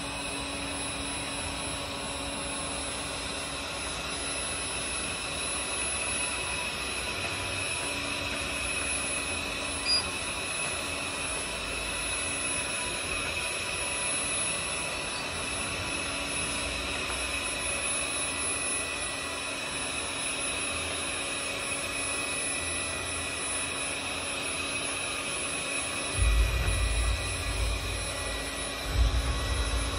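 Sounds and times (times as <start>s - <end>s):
suction fan whining: 0.0s - 29.9s.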